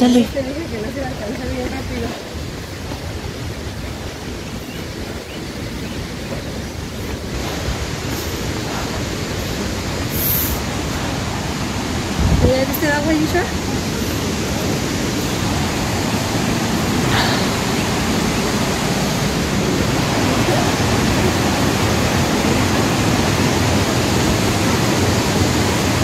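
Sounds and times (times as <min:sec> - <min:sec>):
river rushing over rapids: 0:00.0 - 0:26.0.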